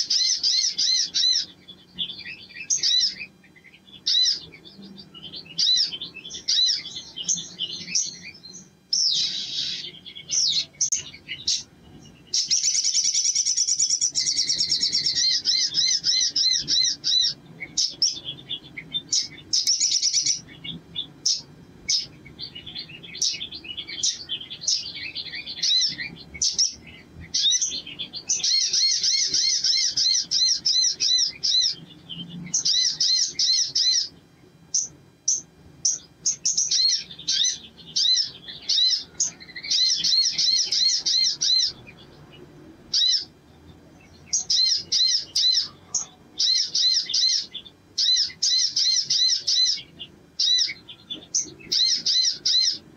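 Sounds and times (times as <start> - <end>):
bird chirping and trilling: 0.0 - 52.9.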